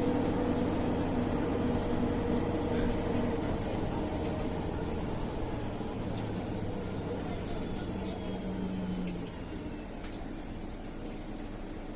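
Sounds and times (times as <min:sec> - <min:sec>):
bus engine and drivetrain hum: 0:00.0 - 0:11.9.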